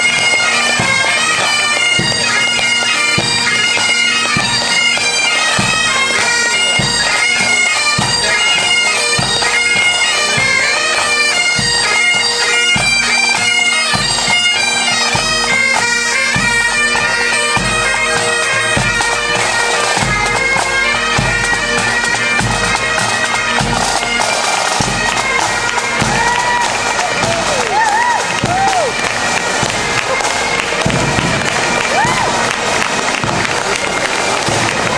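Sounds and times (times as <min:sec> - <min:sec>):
bagpipes playing: 0:00.0 - 0:34.9
drums beating time: 0:00.0 - 0:34.9.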